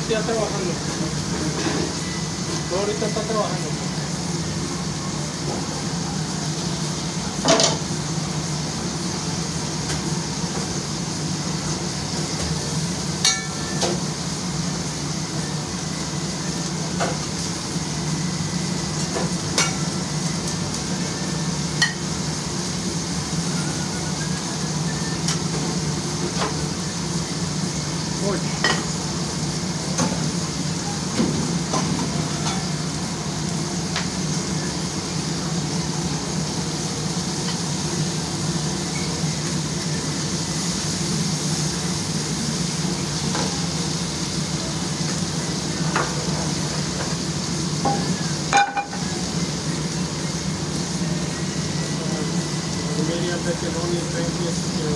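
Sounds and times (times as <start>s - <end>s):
food sizzling in hot oil: 0.0s - 54.9s.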